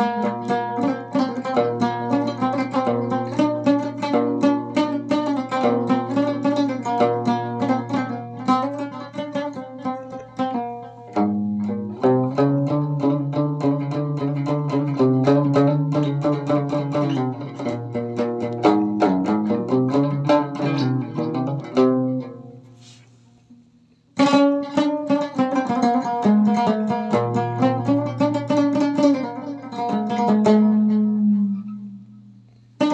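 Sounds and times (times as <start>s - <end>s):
plucked lute melody: 0.0s - 32.9s.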